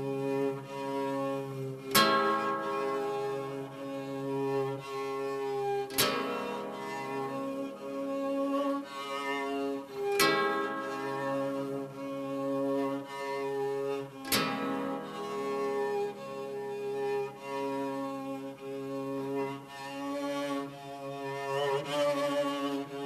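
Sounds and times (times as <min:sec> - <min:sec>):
bowed low string notes: 0:00.0 - 0:23.0.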